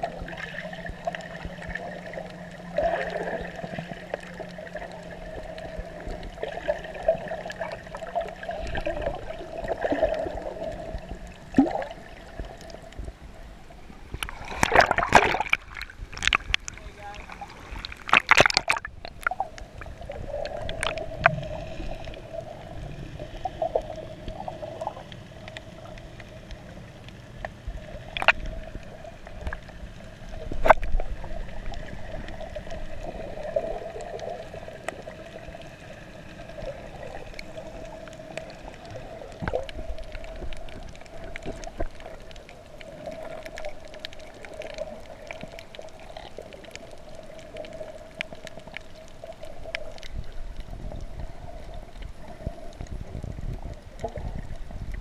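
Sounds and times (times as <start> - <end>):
steady underwater hum: 0.0 - 55.0.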